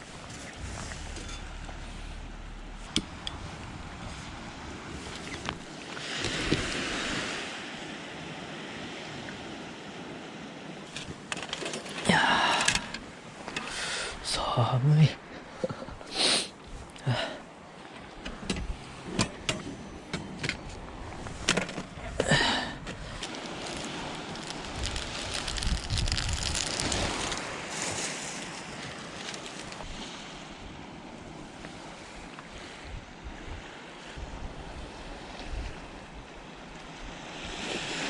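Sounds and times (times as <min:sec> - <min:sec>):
sea waves washing onto shore: 0:00.0 - 0:14.3, 0:15.2 - 0:38.0.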